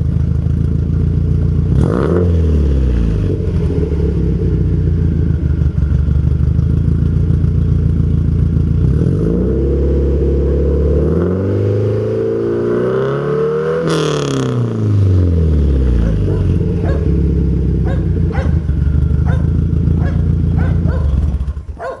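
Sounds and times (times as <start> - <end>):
car engine revving: 0.4 - 22.0.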